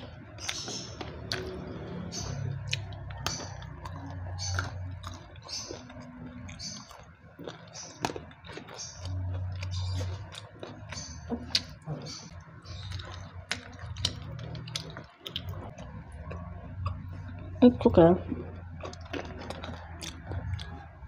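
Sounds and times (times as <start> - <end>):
low hum: 0.0 - 21.0
person chewing food: 0.0 - 21.0.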